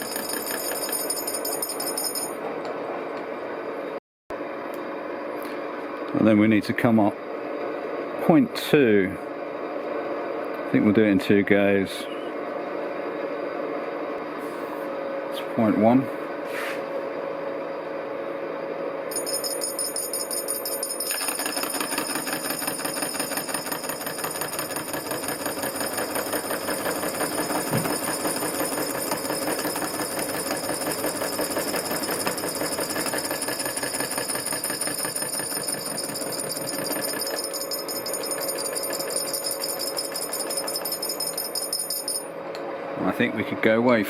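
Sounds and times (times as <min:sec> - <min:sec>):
machine hum and whine: 0:02.3 - 0:39.3.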